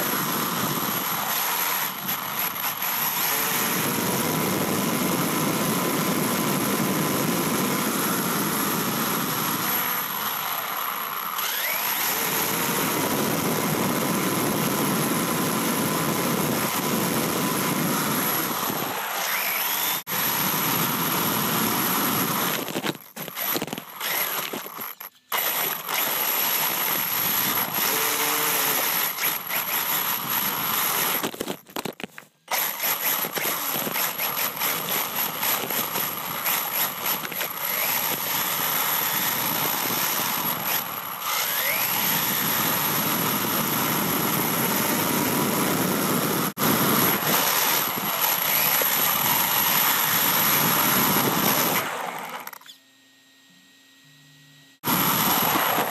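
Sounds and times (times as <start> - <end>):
electric motor whine: 0.0 - 55.9.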